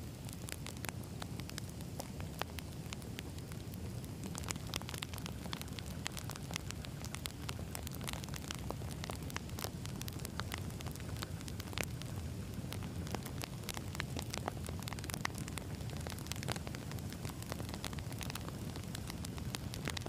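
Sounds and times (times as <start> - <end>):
logs crackling and popping: 0.0 - 20.0
low rush of flame: 0.0 - 20.0.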